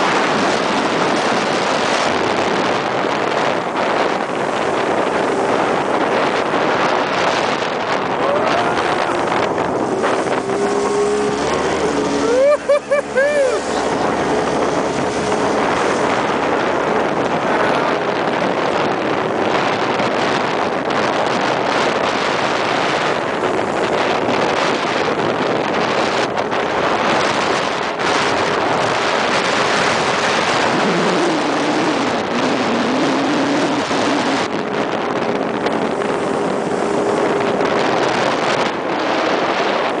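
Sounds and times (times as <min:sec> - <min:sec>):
jet boat engine rushing: 0:00.0 - 0:40.0
wind on microphone: 0:00.0 - 0:40.0.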